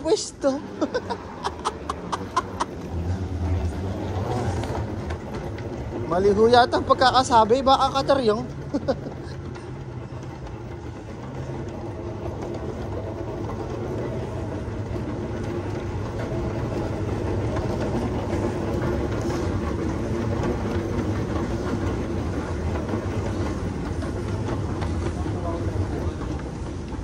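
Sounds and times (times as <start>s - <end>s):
moving walkway rumbling: 0.0s - 27.0s.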